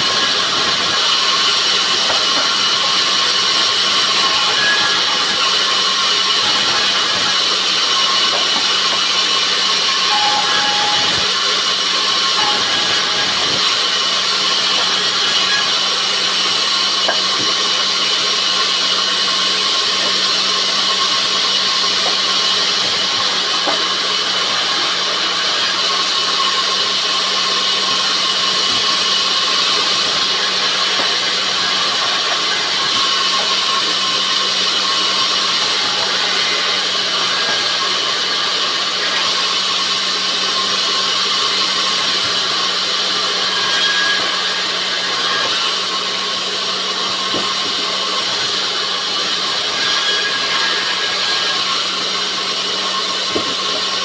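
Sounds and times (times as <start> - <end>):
band saw cutting wood: 0.0 - 54.0.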